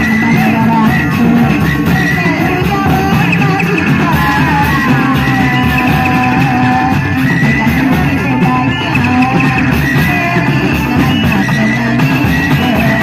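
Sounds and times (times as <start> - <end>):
dance music over loudspeakers: 0.0 - 13.0.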